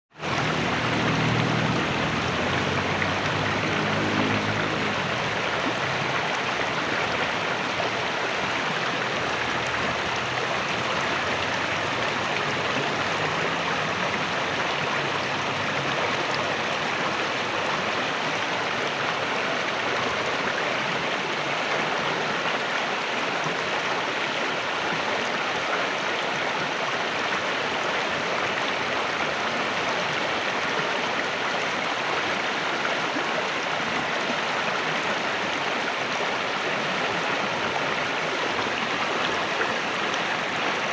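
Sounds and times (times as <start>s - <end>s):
water rushing over waterfall: 0.2s - 40.9s.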